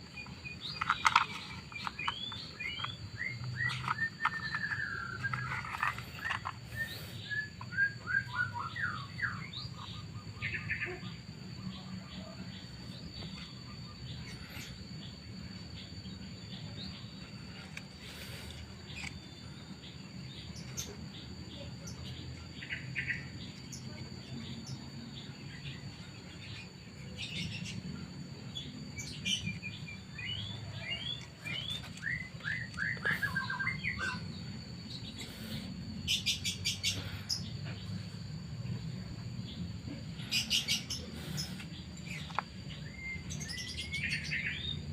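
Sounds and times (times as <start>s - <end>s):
birds chirping: 0.0s - 44.9s
high insect-like whine: 0.0s - 44.9s.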